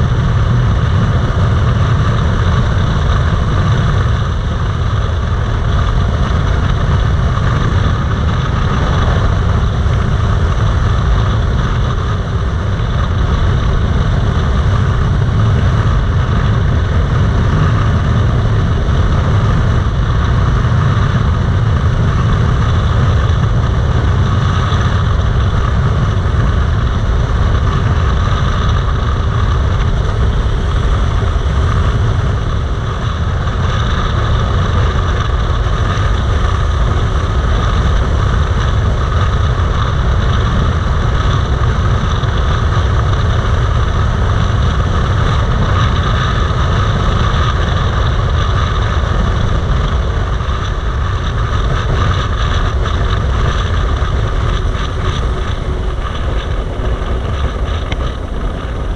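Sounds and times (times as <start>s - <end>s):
motorcycle engine running steadily: 0.0s - 58.9s
wind rushing: 0.0s - 58.9s.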